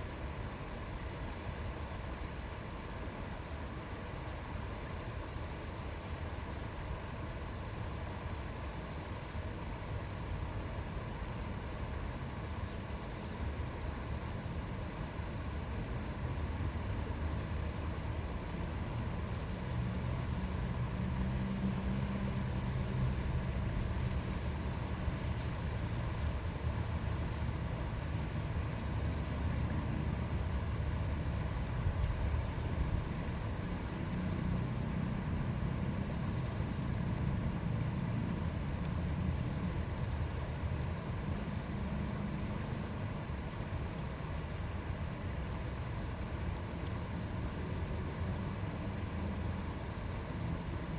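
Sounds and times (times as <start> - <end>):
river water babbling: 0.0 - 50.9.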